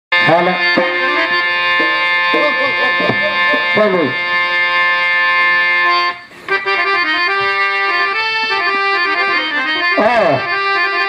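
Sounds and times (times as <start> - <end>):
harmonium playing: 0.1 - 11.0.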